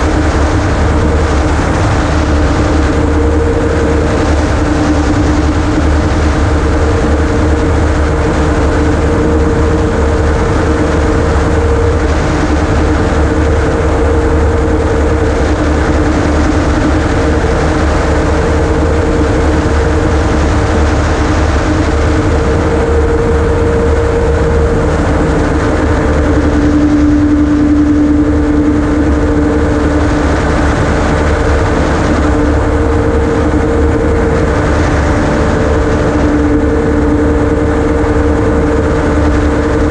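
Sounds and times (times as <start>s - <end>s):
aircraft engine and rotor droning: 0.0s - 39.9s
constant rushing noise: 0.0s - 39.9s.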